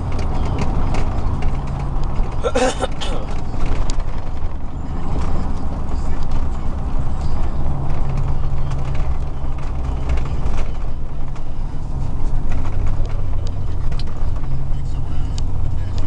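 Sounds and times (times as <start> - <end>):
car engine running while driving: 0.0 - 16.0
road noise: 0.0 - 16.0.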